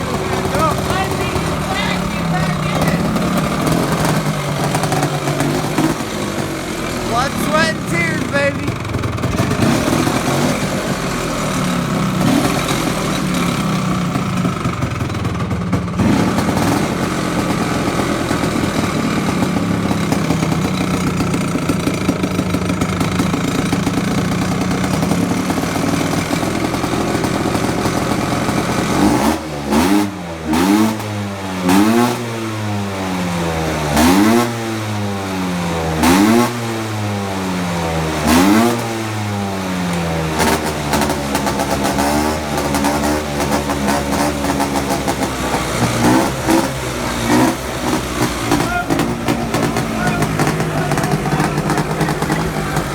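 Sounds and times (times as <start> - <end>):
tractor engine running and revving: 0.0 - 52.9.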